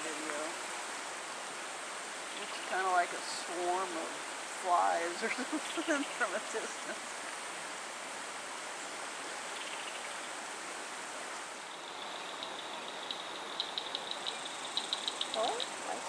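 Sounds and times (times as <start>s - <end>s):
river water rushing: 0.0s - 13.5s.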